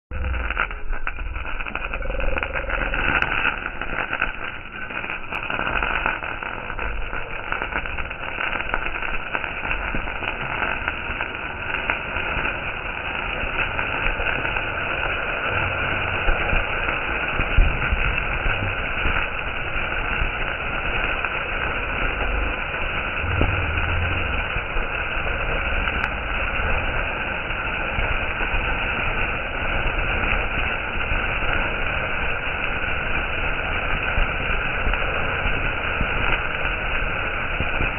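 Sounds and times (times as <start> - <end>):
fountain firecracker hissing: 0.1 - 37.9.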